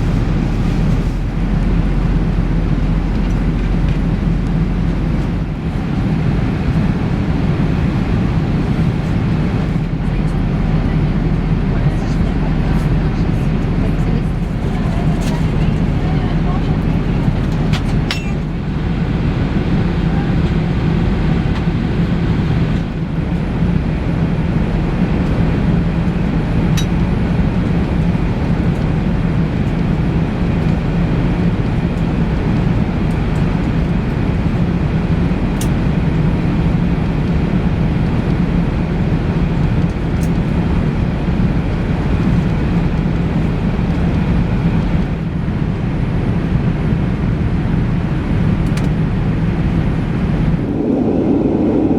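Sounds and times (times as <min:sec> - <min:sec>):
airliner cabin hum: 0:00.0 - 0:51.9.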